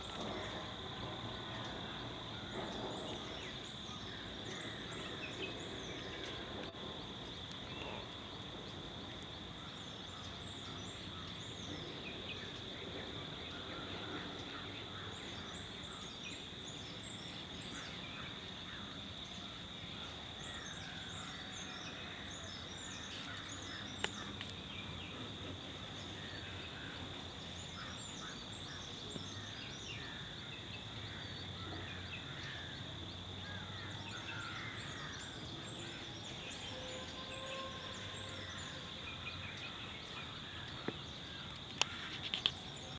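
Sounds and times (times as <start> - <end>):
insect drone: 0.0 - 42.9.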